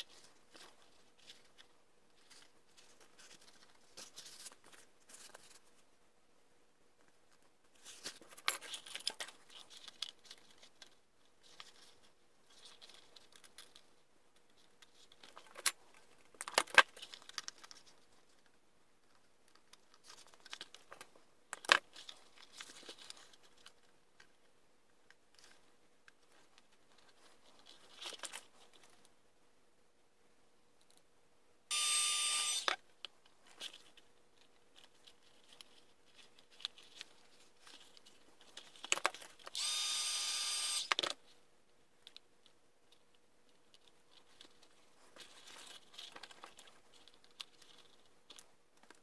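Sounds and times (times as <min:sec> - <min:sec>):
plastic rustling and crinkling: 0:00.0 - 0:05.9, 0:07.0 - 0:29.1, 0:32.7 - 0:39.6, 0:42.0 - 0:49.0.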